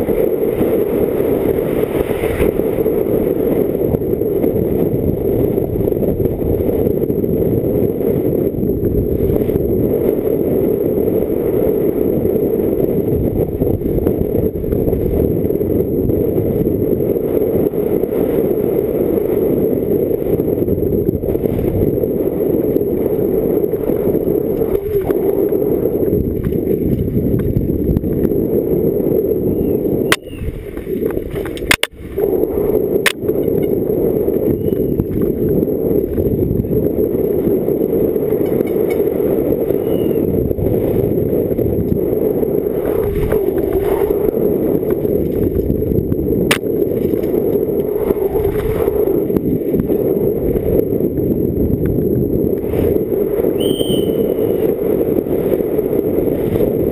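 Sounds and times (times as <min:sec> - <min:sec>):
bike tyre rumble: 0:00.0 - 0:56.9
wind rushing: 0:00.0 - 0:56.9.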